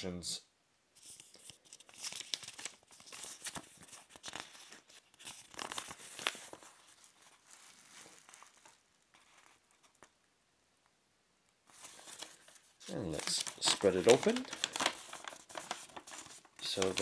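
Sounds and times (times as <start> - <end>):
paper leaflet rustling: 1.0 - 10.2, 11.7 - 17.0.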